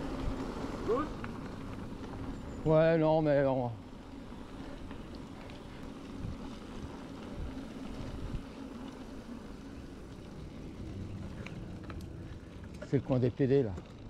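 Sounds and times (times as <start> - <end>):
electric bike rumbling: 0.0 - 14.0
tyres rolling on a track: 0.0 - 14.0.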